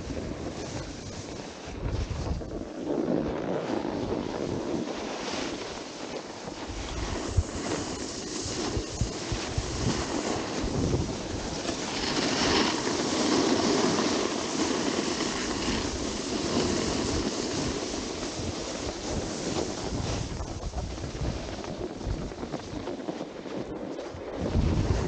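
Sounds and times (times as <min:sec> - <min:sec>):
snowboard scraping on snow: 0:00.0 - 0:25.0
wind on microphone: 0:00.0 - 0:25.0.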